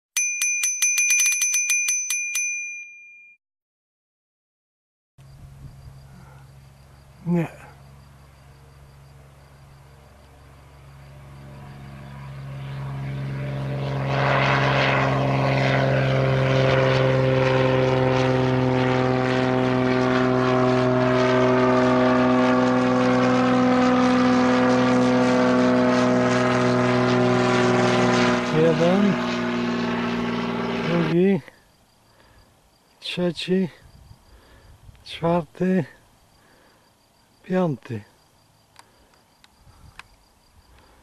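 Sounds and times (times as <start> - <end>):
propeller airplane engine drone: 5.2 - 33.6, 34.2 - 34.8, 35.5 - 41.0.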